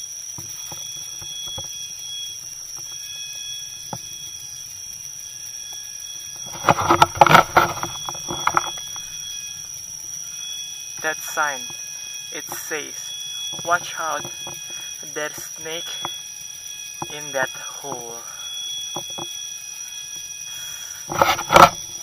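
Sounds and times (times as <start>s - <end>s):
insects whining: 0.0s - 22.0s.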